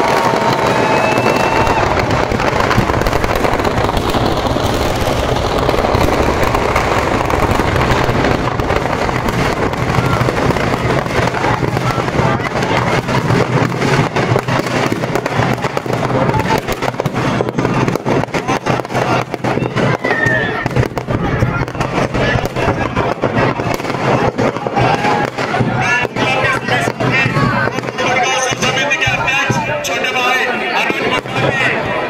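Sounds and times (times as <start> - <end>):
sharp firecracker pops: 0.0 - 28.8
firecrackers crackling: 0.0 - 32.0.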